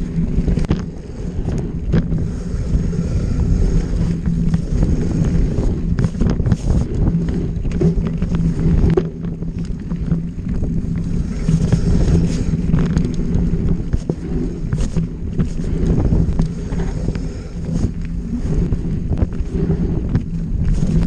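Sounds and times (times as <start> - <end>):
tyre and drivetrain noise: 0.0 - 21.0
wind buffeting microphone: 0.0 - 21.0.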